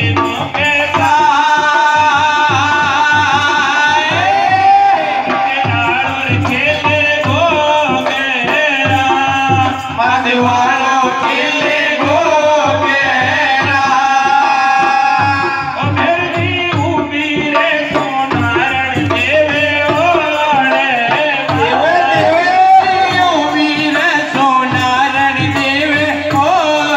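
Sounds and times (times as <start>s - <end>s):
hand drum beats: 0.0s - 26.9s
person singing devotional song: 0.0s - 26.9s.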